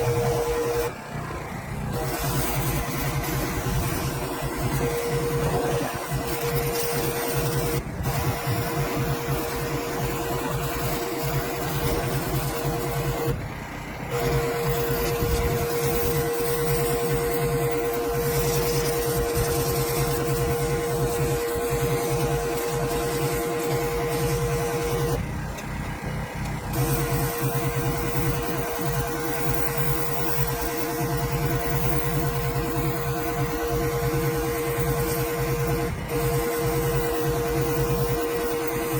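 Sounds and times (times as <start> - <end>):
pressure washer motor whine: 0.0 - 38.9.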